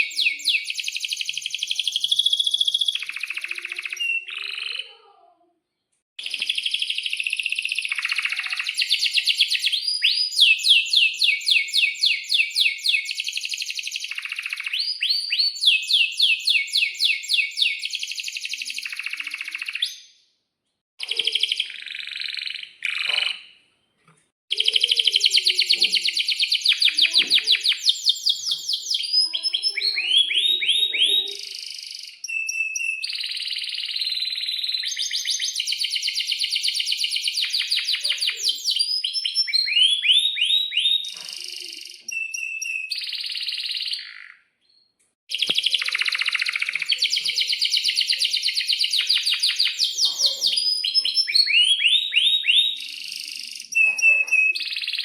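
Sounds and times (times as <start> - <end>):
canary singing trills: 0.0 - 5.4, 6.2 - 20.2, 21.0 - 23.5, 24.5 - 55.0.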